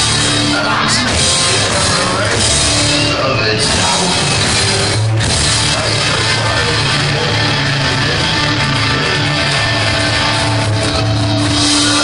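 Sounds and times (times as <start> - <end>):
drum kit: 0.0 - 12.0
electric guitar: 0.0 - 12.0
live rock band playing: 0.0 - 12.0
upright bass: 0.0 - 12.0.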